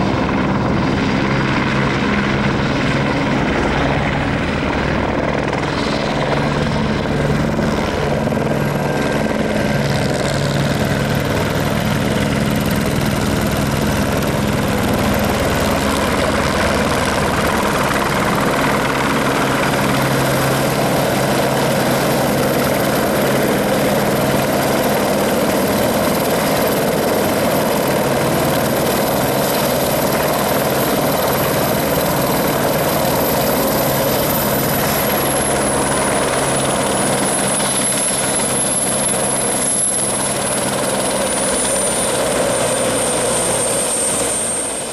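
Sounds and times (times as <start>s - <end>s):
helicopter rotor and engine: 0.0s - 44.9s
high turbine whine: 0.0s - 44.9s.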